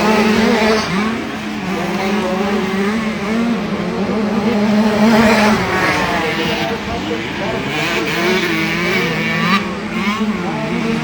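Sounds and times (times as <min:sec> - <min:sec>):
two-stroke motocross bikes racing: 0:00.0 - 0:11.0.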